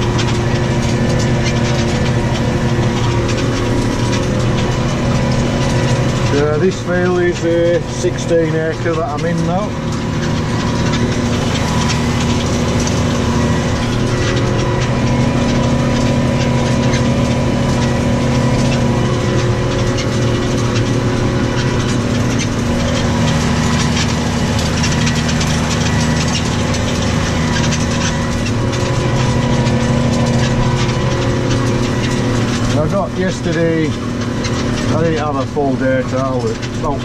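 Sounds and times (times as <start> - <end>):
machinery clicking and rattling: 0.0 - 37.0
tractor diesel engine running: 0.0 - 37.0.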